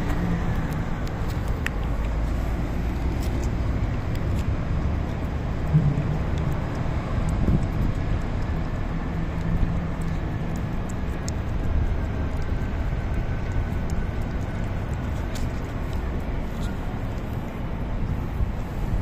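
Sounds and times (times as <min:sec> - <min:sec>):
cat licking with wet clicks: 0:00.0 - 0:19.0
steady low rumble: 0:00.0 - 0:19.0.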